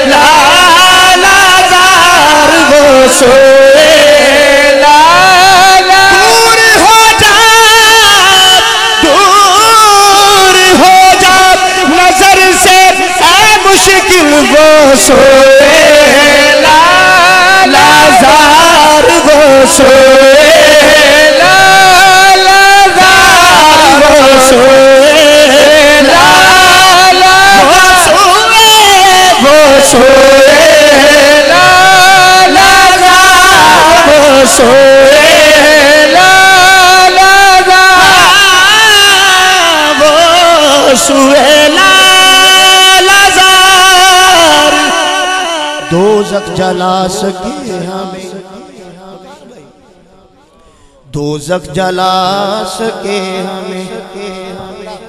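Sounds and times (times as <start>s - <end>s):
man singing into a microphone: 0.0s - 55.0s.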